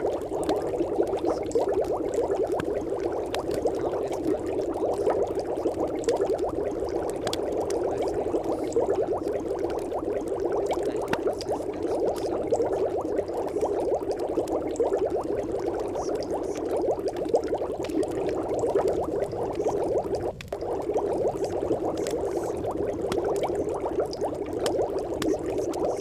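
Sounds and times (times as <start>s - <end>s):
dense bubbling water: 0.0s - 26.0s.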